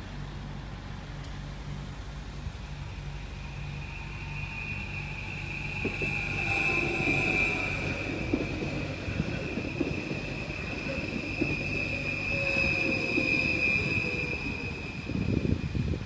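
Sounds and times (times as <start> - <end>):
train motor whine: 0.7 - 16.0
train wheels squealing: 2.4 - 16.0.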